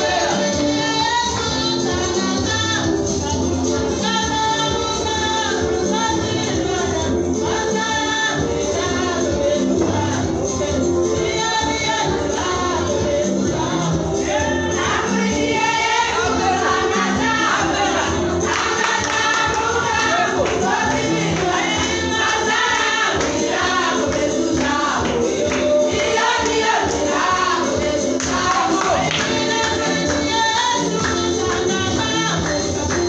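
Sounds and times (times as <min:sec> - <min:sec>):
choir singing gospel: 0:00.0 - 0:33.0.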